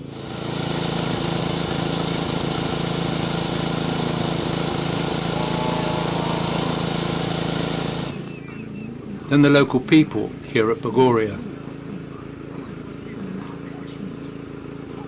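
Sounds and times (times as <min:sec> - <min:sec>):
generator humming: 0:00.0 - 0:15.0.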